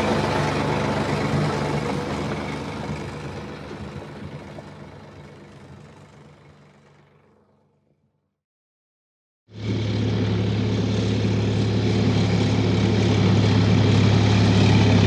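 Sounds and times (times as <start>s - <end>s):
diesel engine running: 0.0s - 8.1s, 9.5s - 15.0s.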